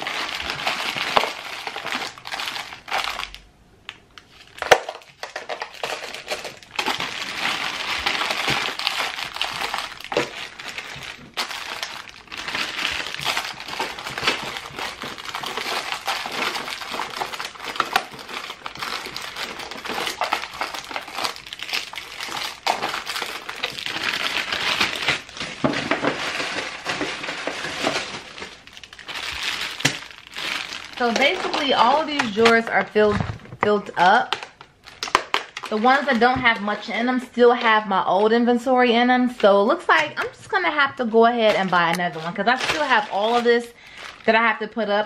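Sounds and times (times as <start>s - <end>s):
plastic bags crinkling: 0.0s - 44.7s.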